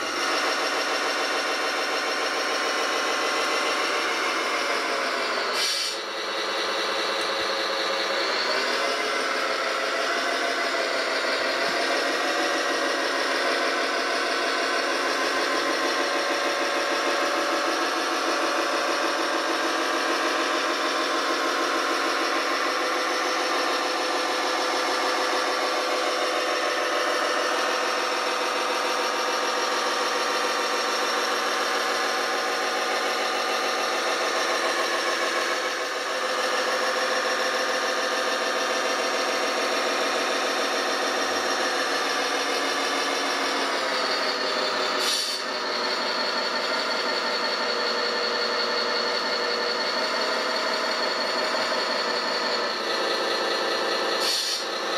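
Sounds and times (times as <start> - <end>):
model diesel engine running: 0.0 - 54.9.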